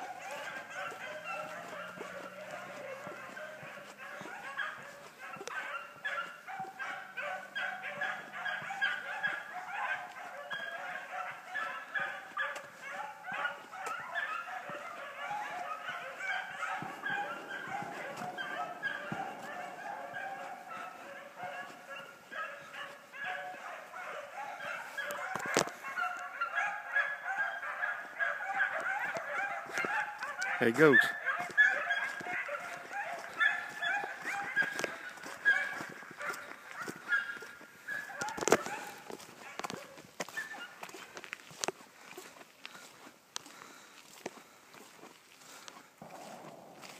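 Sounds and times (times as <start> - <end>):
pack of hounds baying: 0.0 - 46.9.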